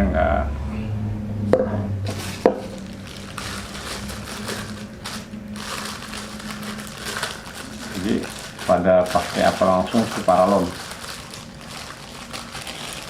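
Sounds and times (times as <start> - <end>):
packaging rustling and crinkling: 2.1 - 13.0.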